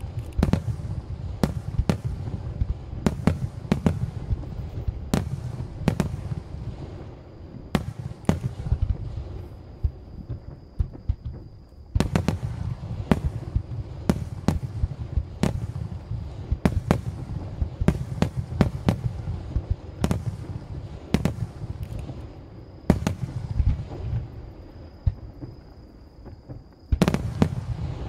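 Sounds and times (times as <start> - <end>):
continuous low rumble: 0.0 - 28.0.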